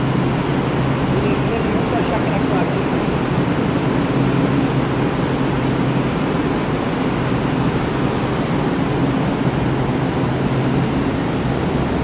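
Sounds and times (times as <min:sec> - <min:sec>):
metro train humming at platform: 0:00.0 - 0:12.0.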